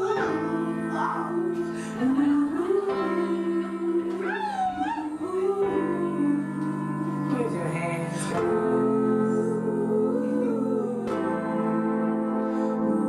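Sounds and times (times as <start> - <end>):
slow held chords with gliding melody: 0.0 - 13.0.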